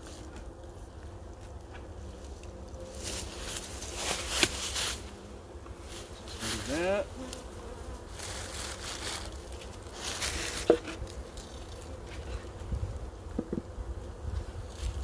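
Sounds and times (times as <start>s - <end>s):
bees buzzing: 0.0s - 15.0s
rustle: 0.0s - 15.0s.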